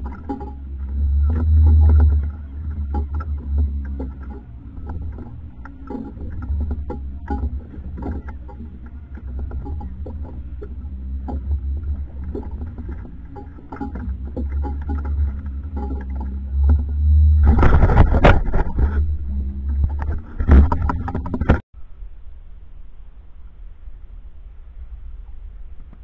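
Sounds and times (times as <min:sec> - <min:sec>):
boat engine rumble: 0:00.0 - 0:26.0.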